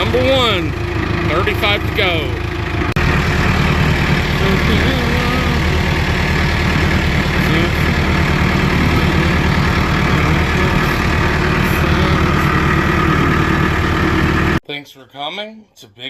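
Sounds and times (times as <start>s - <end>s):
tractor engine running: 0.0s - 14.6s.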